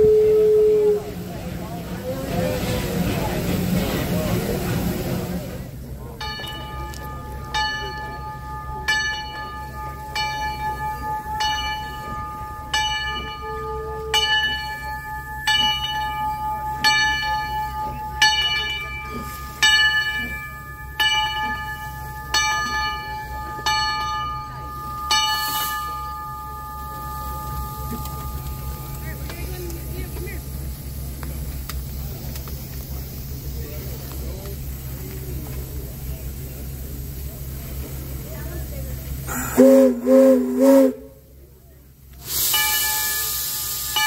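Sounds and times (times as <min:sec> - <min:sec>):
steam locomotive bell ringing: 0:00.0 - 0:44.0.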